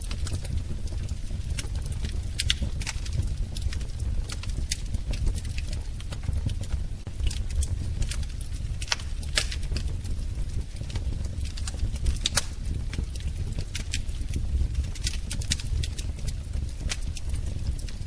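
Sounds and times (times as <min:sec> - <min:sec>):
low rumble of fire: 0:00.0 - 0:18.0
wood fire crackling: 0:00.0 - 0:18.0.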